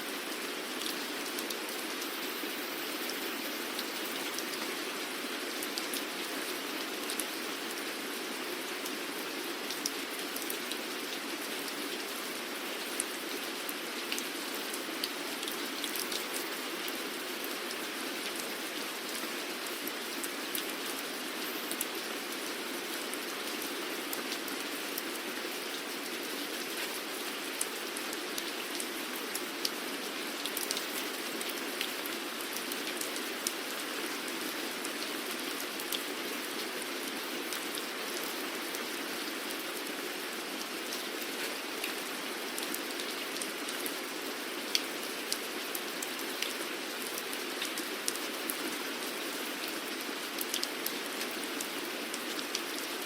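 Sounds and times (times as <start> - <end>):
steady rain hiss: 0.0 - 53.0
raindrops ticking on a surface: 3.0 - 53.0.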